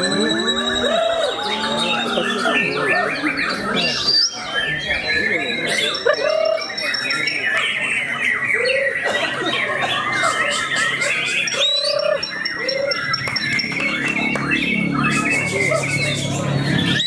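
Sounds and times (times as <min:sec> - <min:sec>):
caged songbirds singing: 0:00.0 - 0:17.0.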